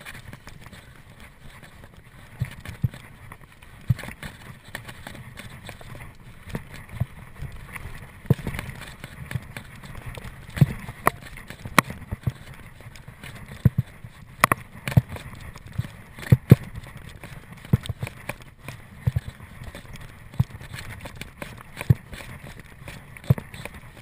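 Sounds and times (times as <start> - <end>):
bike jolting over rough ground: 0.0 - 24.0.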